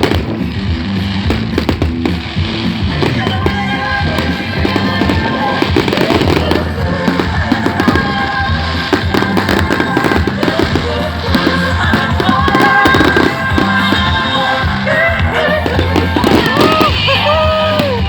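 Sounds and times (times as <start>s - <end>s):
fireworks crackling and popping: 0.0s - 18.0s
music playing: 0.0s - 18.0s.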